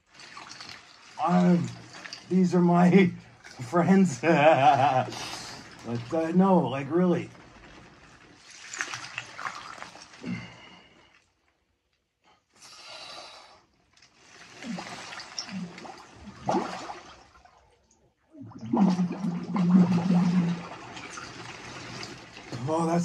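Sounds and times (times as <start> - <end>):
water sloshing and splashing: 0.0 - 11.9, 13.8 - 23.0.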